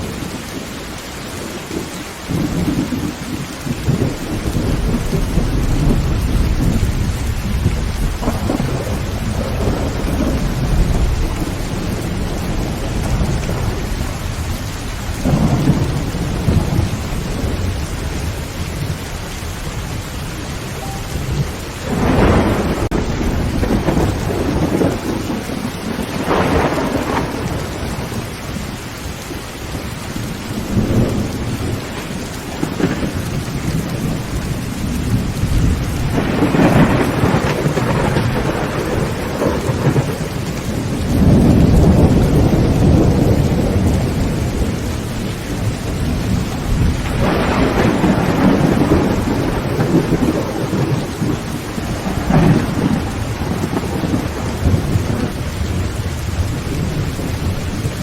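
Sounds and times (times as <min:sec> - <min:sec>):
heavy rain on a tin roof: 0:00.0 - 0:58.0
thunder rumbling: 0:00.0 - 0:58.0.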